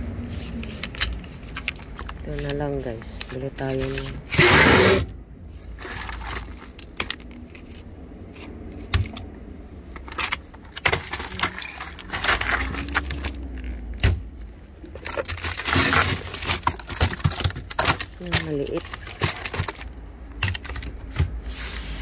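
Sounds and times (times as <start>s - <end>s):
plastic cups clacking and rustling: 0.0s - 21.5s
low freezer hum: 0.0s - 22.0s.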